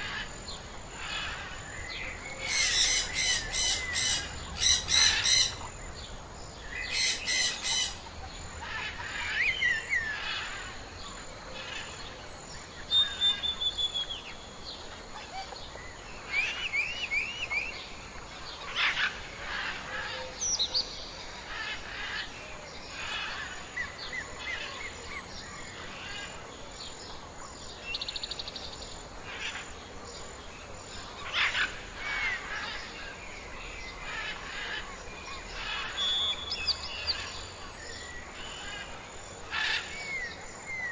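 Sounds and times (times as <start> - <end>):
steady outdoor hiss: 0.0 - 40.9
wild birds calling and singing: 0.0 - 40.9.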